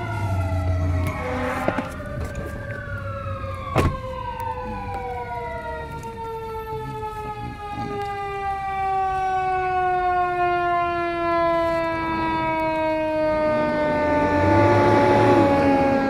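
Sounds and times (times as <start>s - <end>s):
fire engine siren winding down: 0.0s - 16.0s
wavering siren tone: 0.0s - 16.0s.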